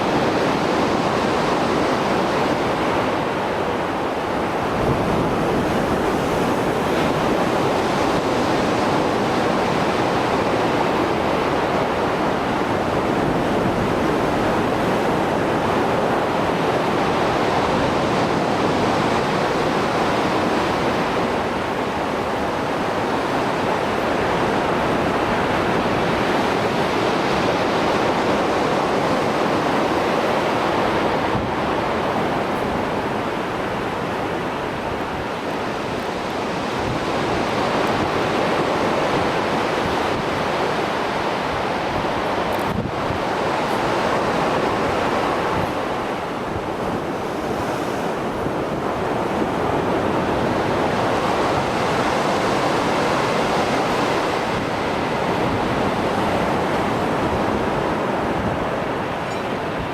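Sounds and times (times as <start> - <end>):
waves breaking: 0.0 - 59.9.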